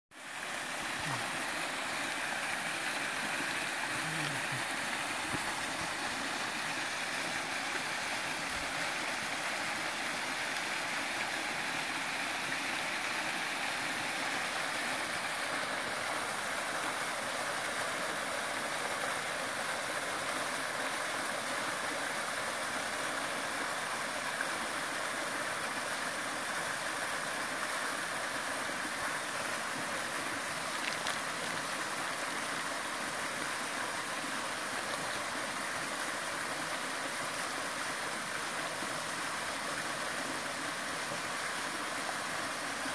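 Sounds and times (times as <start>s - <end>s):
waterfall rushing over rock: 0.2s - 42.9s.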